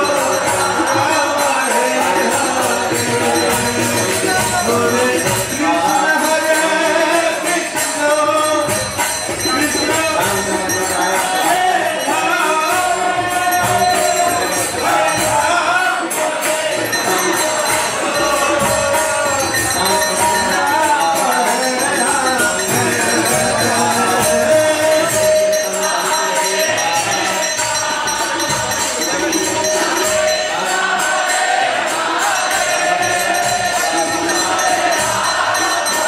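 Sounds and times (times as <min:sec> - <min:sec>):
hand cymbals jingling: 0:00.0 - 0:36.0
voices singing a chant: 0:00.0 - 0:36.0.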